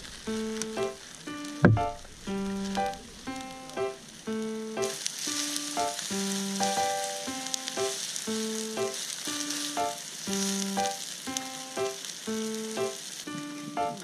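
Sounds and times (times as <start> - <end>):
noodles sizzling on grill: 0.0 - 14.0
light background music: 0.2 - 14.0.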